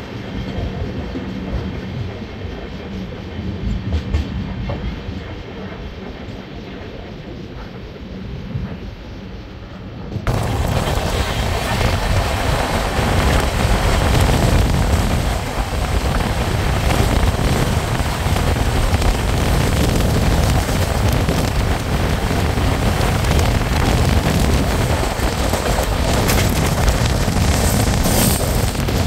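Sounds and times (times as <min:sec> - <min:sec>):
passenger train rumbling: 0:00.0 - 0:29.0.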